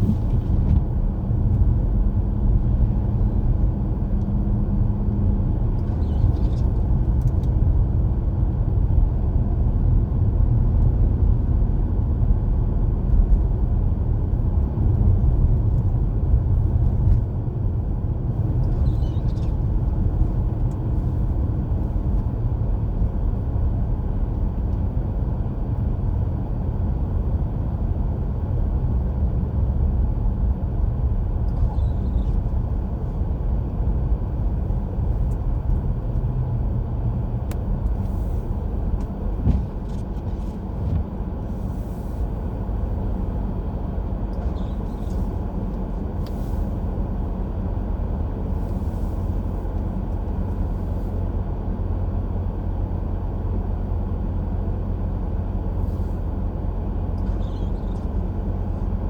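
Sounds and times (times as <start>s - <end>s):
car driving on snowy road: 0.0s - 59.0s.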